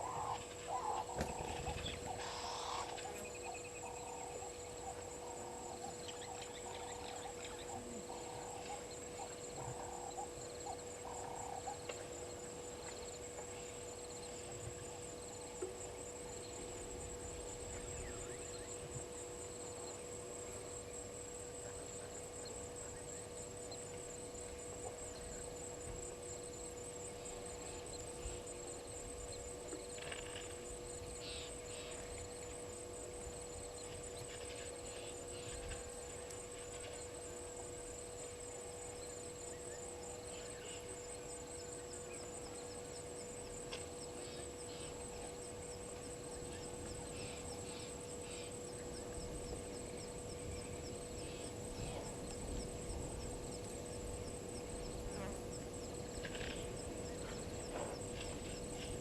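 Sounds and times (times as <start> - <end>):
pulsing insect trill: 0.0 - 59.0
steady low hum: 0.0 - 59.0.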